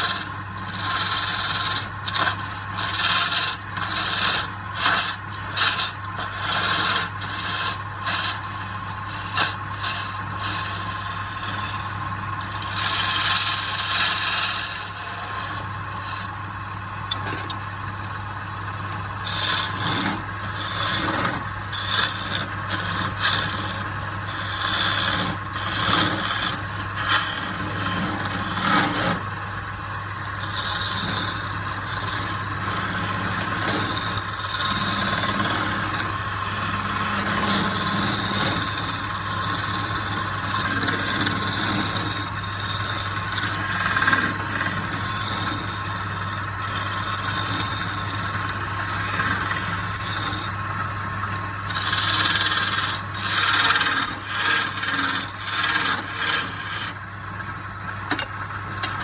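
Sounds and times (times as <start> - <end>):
steady motor hum: 0.0 - 59.0
tool scraping wood: 0.0 - 59.0.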